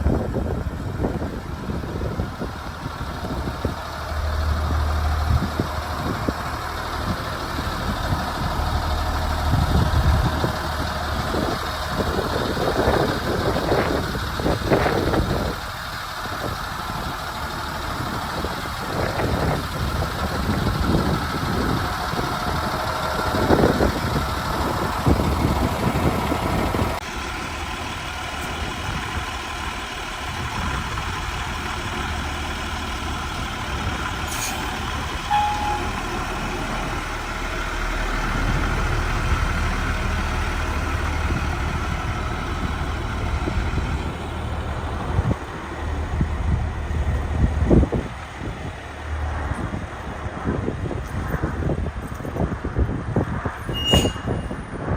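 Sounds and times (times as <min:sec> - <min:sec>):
truck engine idling: 0:00.0 - 0:53.4.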